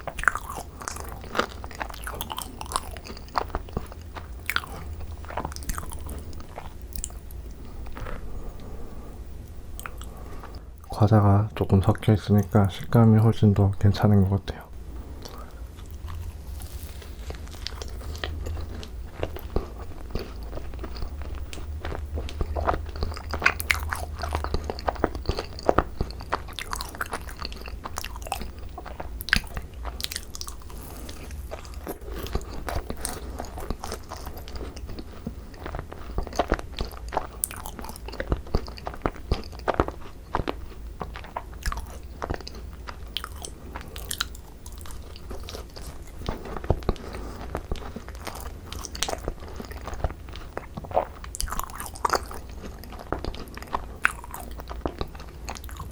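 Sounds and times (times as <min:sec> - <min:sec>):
crunchy biting and chewing: 0:00.0 - 0:11.0, 0:14.9 - 0:55.9
low steady hum: 0:00.0 - 0:55.9.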